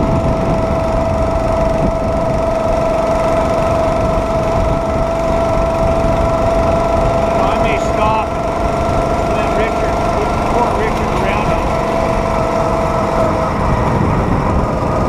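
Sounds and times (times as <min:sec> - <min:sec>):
cart rolling on track: 0:00.0 - 0:15.0
small engine with high whine: 0:00.0 - 0:15.0.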